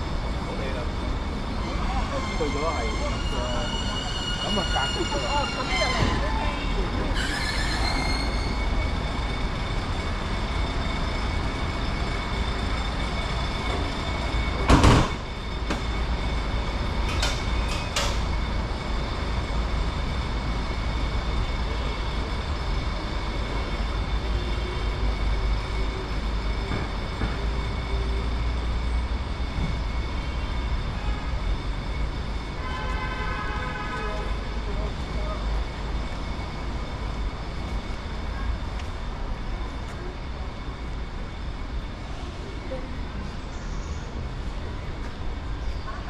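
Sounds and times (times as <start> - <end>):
train jolt: 0.0 - 43.4
train rumbling with high whine: 0.0 - 46.0.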